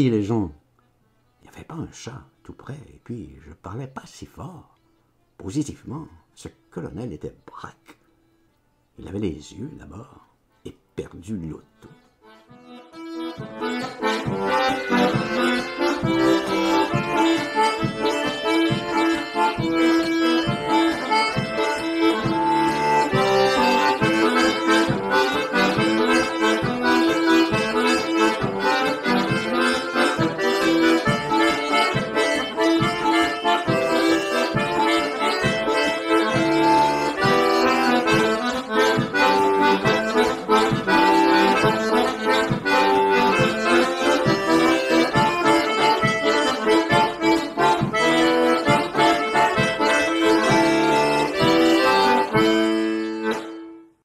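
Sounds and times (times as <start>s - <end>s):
lively instrumental music: 4.7s - 54.0s.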